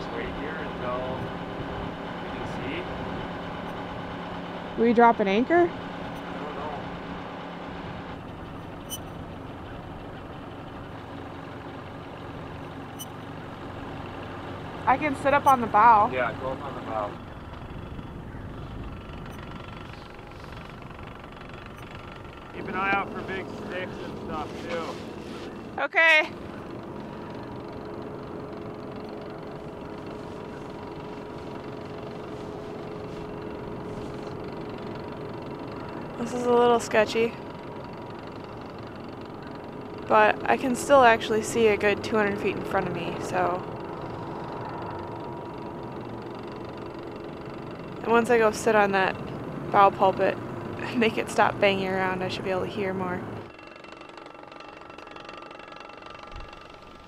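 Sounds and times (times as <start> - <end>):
boat diesel engine running: 0.0 - 57.0.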